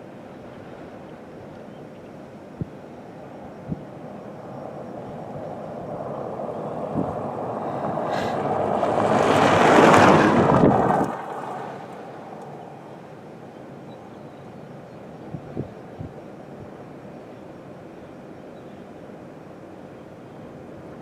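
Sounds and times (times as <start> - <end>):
wind blowing across microphone: 0.0 - 17.9.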